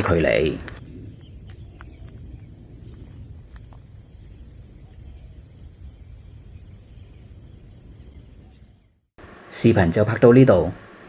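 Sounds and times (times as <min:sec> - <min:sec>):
insects trilling: 0:00.0 - 0:09.1.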